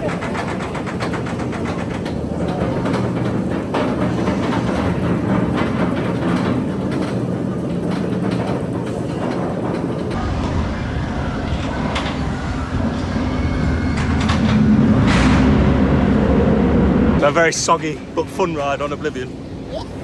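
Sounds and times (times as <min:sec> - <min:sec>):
roller coaster rattling on track: 0:00.0 - 0:19.7.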